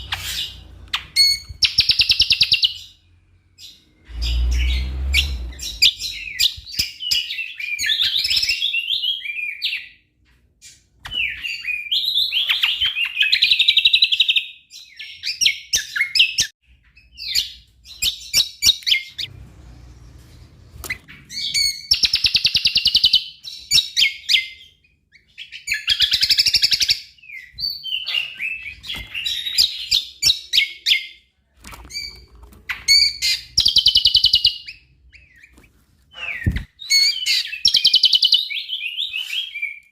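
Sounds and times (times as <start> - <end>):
bird singing rapid chattering song: 0.0 - 3.0, 3.6 - 9.9, 10.6 - 31.1, 31.9 - 39.8.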